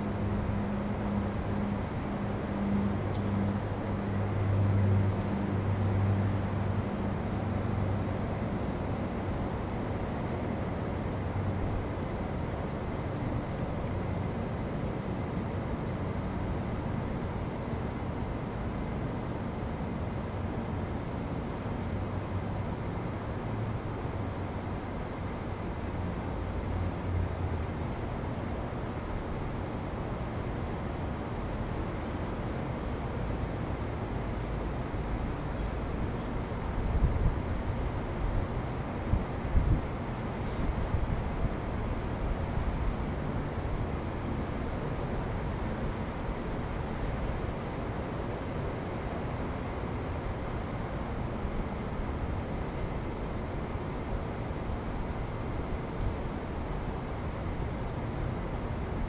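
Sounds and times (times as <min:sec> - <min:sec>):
night insects trilling: 0:00.0 - 0:59.0.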